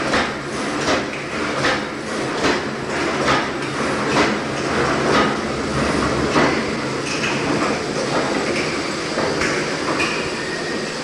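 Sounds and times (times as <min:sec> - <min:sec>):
heavy mechanical knocks: 0:00.0 - 0:10.2.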